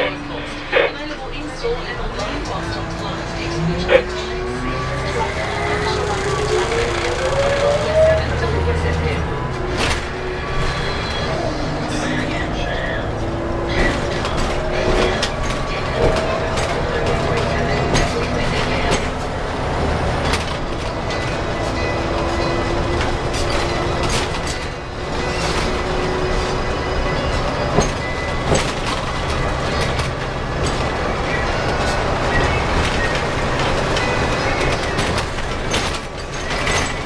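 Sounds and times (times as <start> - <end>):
bus diesel engine droning: 0.0 - 37.0
road noise: 0.0 - 37.0.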